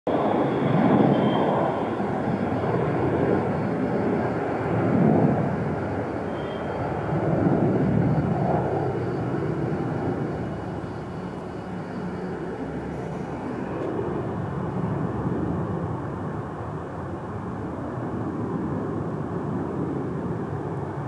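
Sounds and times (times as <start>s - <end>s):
faint high whine: 0.1s - 21.0s
jet engine rumble: 0.1s - 21.0s.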